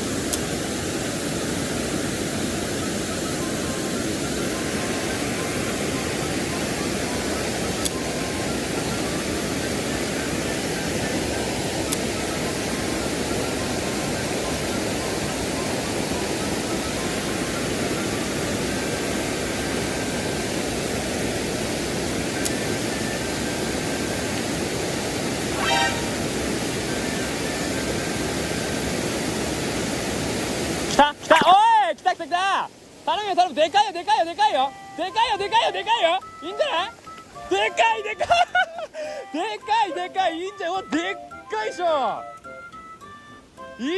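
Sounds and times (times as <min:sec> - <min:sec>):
stream rushing over rocks: 0:00.0 - 0:42.1.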